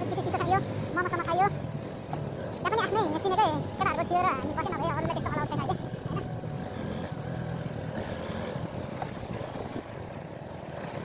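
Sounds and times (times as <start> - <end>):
motorcycle engine running: 0.0 - 11.0
wind: 0.0 - 11.0.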